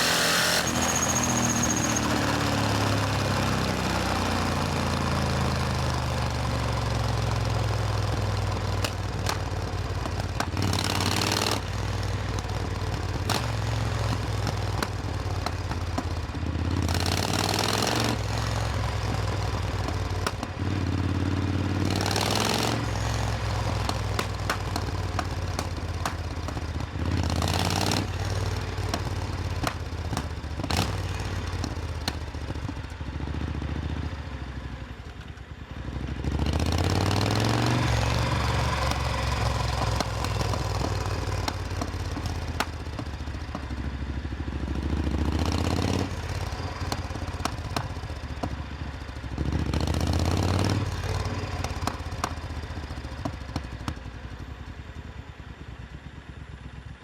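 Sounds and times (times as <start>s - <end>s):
motorcycle engine low revs: 0.0s - 54.4s.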